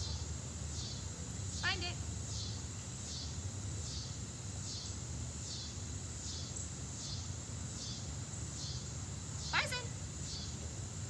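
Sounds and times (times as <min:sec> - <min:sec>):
insects pulsing chirp: 0:00.0 - 0:11.0.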